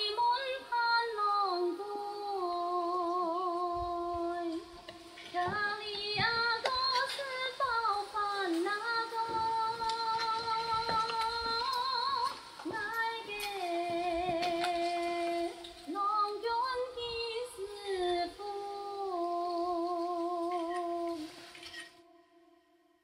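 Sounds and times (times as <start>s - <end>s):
woman singing with vibrato: 0.0s - 22.2s.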